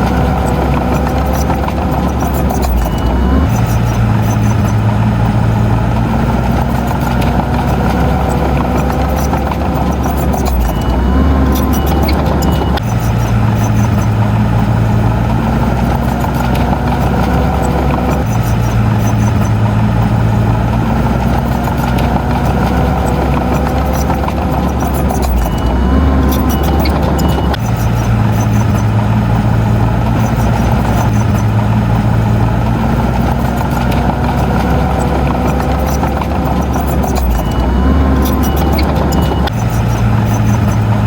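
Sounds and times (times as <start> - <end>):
heavy diesel engine humming: 0.0 - 41.0.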